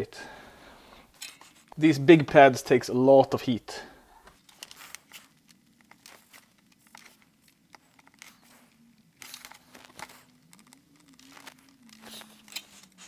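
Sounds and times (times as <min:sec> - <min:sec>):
solder flux crackling: 0:00.1 - 0:13.0.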